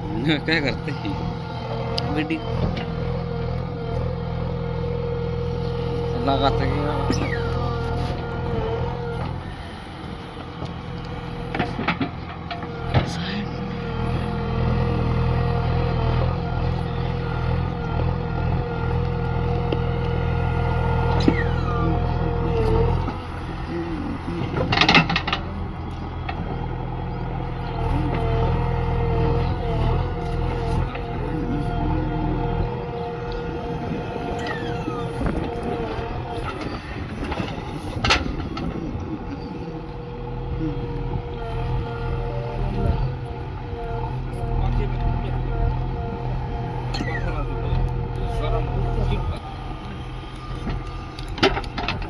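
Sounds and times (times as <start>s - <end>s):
heavy diesel engine running: 0.0s - 52.0s
high machine whine: 0.0s - 52.0s
metal squeaks: 0.0s - 52.0s.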